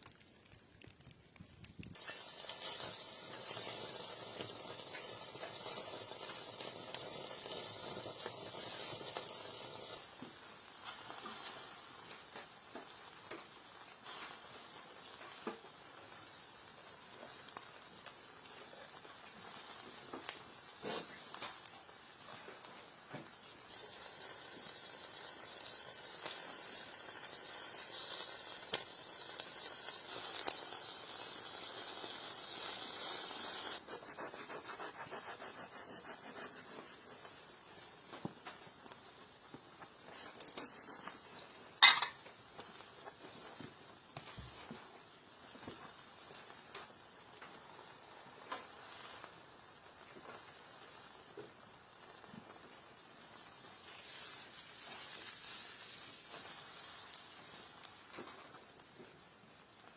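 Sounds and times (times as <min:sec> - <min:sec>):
small pops and crackles: 0:00.0 - 0:35.2, 0:35.8 - 0:59.9
food sizzling in a pan: 0:01.9 - 0:59.9.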